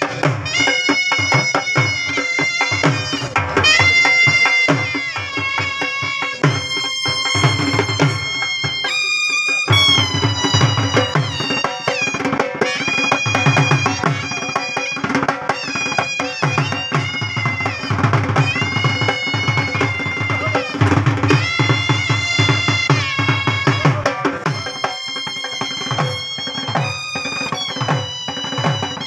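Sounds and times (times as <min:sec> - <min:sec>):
dhol drums beaten with sticks: 0:00.0 - 0:29.0
reed pipes playing melody: 0:00.0 - 0:29.0.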